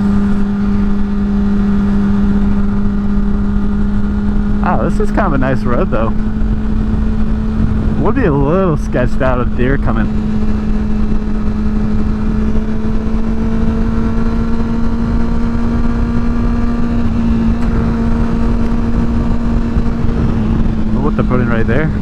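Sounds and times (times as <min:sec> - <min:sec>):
motorcycle engine cruising: 0:00.0 - 0:22.0
road rumble: 0:00.0 - 0:22.0
wind noise: 0:00.0 - 0:22.0.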